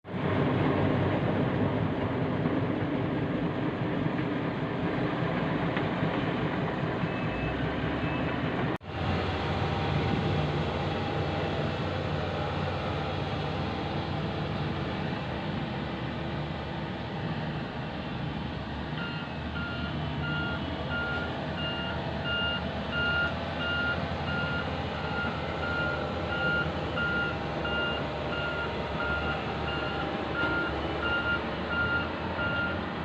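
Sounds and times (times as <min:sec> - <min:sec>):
heavy diesel machinery running: 0:00.0 - 0:33.0.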